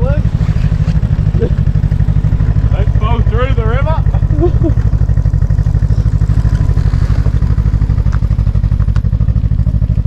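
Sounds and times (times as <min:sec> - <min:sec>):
snowmobile engine idling: 0:00.0 - 0:10.0.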